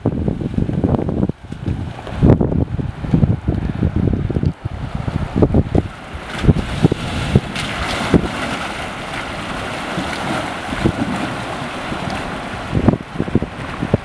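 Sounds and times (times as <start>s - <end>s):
river rushing: 0.0s - 14.0s
water splashing around wheels: 0.0s - 14.0s
wind buffeting microphone: 0.0s - 14.0s.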